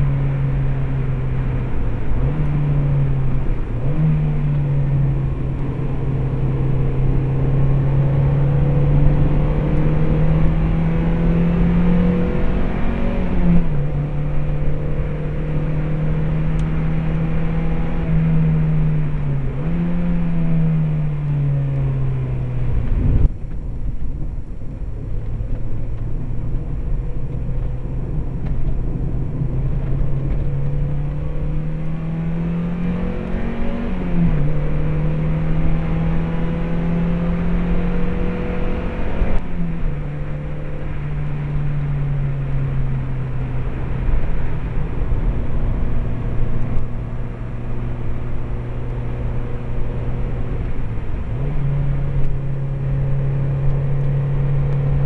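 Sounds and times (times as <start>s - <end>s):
car engine revving: 0.0s - 55.0s
road and tyre noise: 0.0s - 55.0s.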